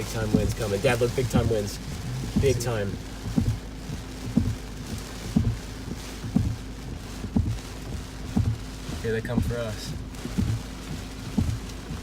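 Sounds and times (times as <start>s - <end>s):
car low hum: 0.0s - 12.0s
heavy rain: 0.0s - 12.0s
windshield wipers thumping: 0.0s - 12.0s.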